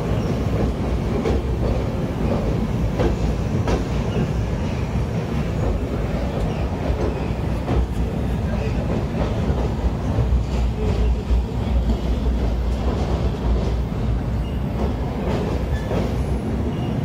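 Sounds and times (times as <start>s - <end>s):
wheels clacking over rail joints: 0.0s - 16.9s
train wheels rumbling on rails: 0.0s - 17.0s.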